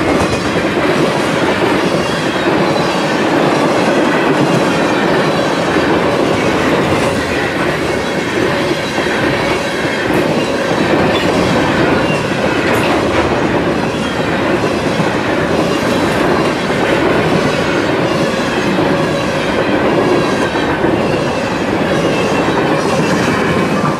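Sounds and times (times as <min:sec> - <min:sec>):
freight train wheels rumbling on rail: 0:00.0 - 0:23.9.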